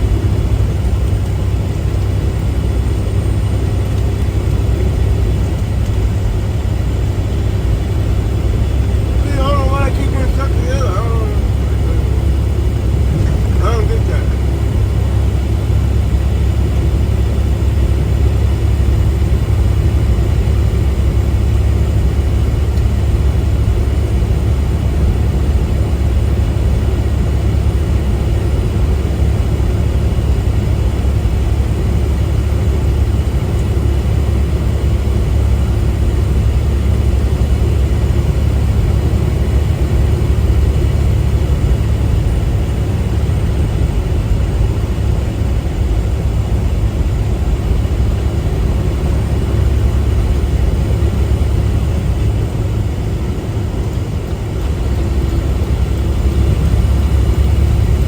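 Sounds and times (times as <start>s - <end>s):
road noise: 0.0s - 58.0s
truck engine drone: 0.0s - 58.0s.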